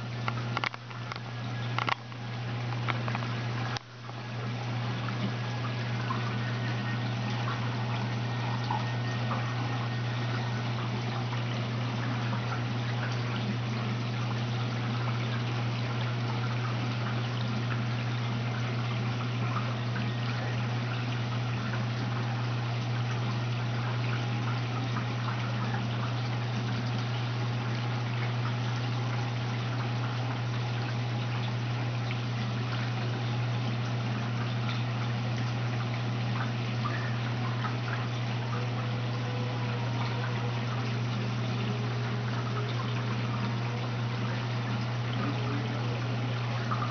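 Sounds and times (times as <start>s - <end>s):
aquarium pump humming: 0.0s - 46.9s
water trickling: 0.0s - 46.9s.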